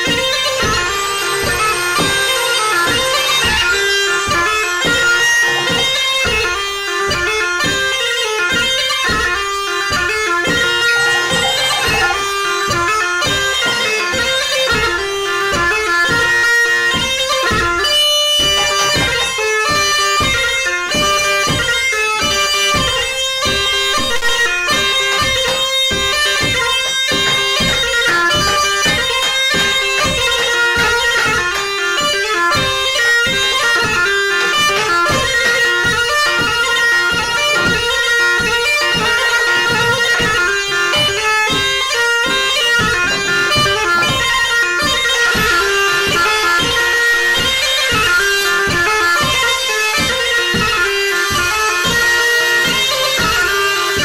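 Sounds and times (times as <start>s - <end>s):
steady beat: 0.0s - 54.0s
wind instrument melody: 0.0s - 54.0s.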